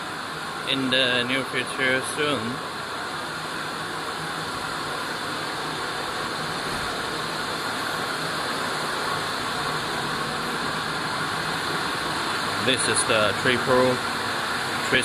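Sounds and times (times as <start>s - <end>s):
factory machine hiss: 0.0s - 15.0s
low machine hum: 0.0s - 15.0s.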